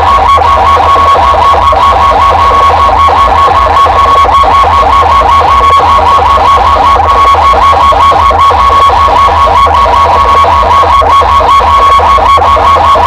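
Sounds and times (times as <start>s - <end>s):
deep bass throbbing: 0.0s - 13.0s
falling electronic chirps: 0.0s - 13.0s
steady high tone: 0.0s - 13.0s.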